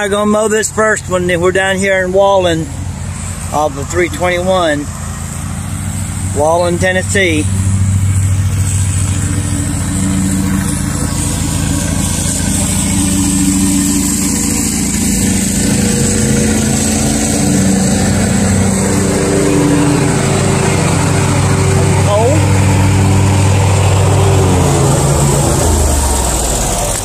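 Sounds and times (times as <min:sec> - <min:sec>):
riding lawn mower engine: 0:00.0 - 0:27.0.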